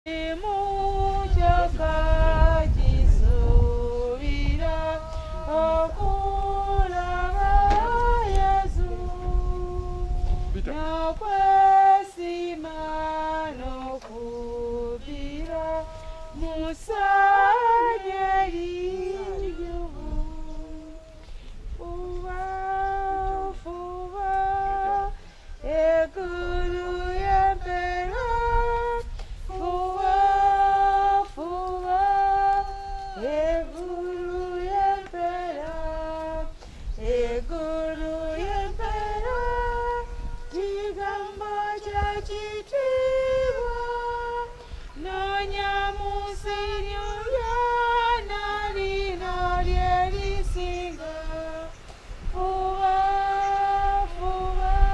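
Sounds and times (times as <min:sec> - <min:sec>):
woman singing a hymn: 0:00.1 - 0:54.9.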